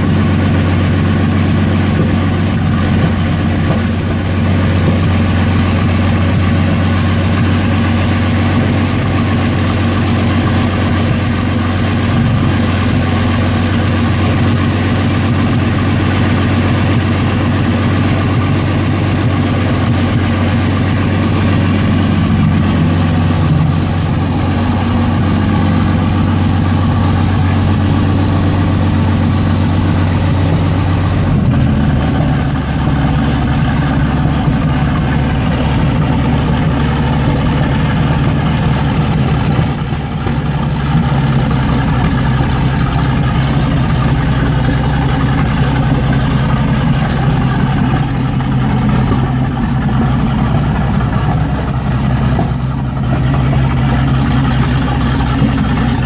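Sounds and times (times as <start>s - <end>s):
tank engine idling: 0.0s - 56.0s.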